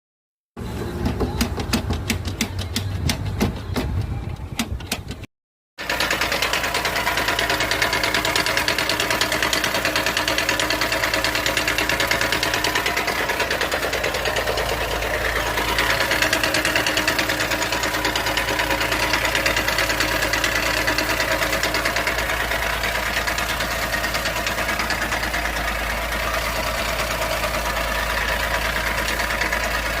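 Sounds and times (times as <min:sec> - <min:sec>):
car engine idling: 0:05.8 - 0:30.0.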